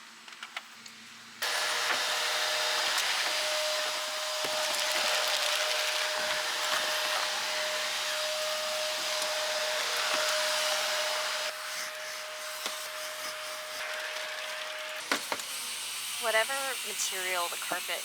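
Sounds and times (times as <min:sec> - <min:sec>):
vacuum cleaner running: 0:01.4 - 0:18.0.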